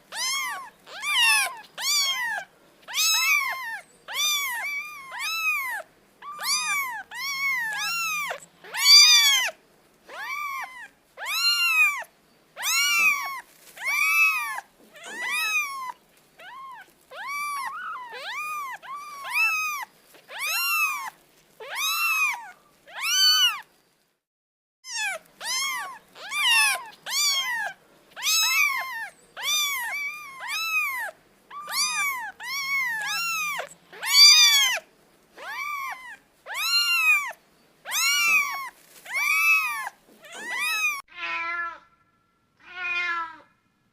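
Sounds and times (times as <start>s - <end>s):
cat meowing: 0.1s - 23.7s, 24.8s - 43.6s.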